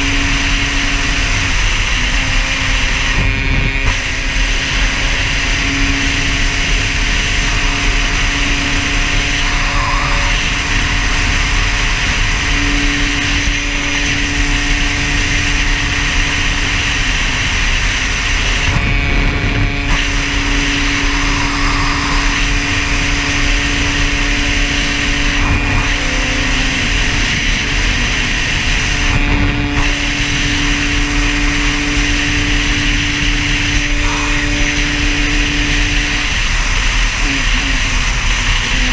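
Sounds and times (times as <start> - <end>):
dirt bike engine running: 0.0 - 38.9
wind rushing across microphone: 0.0 - 38.9.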